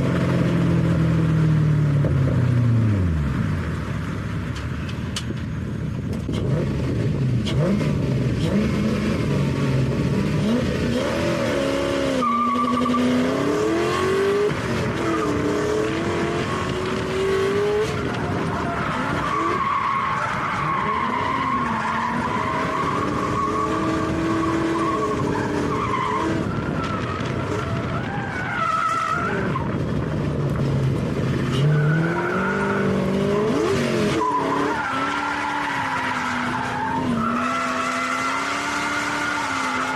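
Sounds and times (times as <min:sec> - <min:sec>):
car engine revving: 0:06.2 - 0:39.9.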